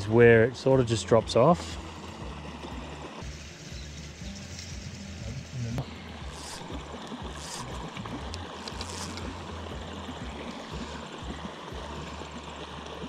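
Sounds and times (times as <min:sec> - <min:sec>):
stream running over riffle: 0:00.0 - 0:13.0.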